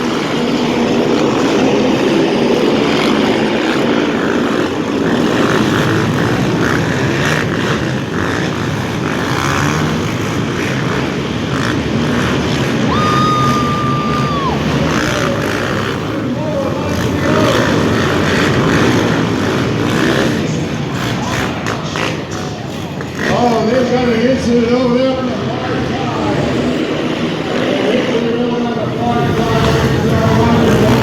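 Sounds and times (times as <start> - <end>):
racing quad engines: 0.0 - 31.0.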